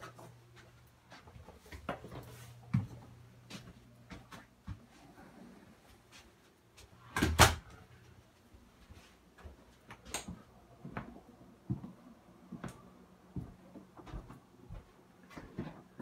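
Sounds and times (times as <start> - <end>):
soft footsteps on hard floor: 0.0 - 5.2, 8.3 - 16.0.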